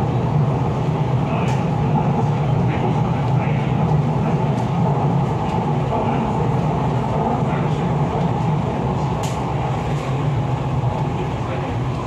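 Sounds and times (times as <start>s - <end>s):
train running rumble and hiss: 0.0s - 12.0s.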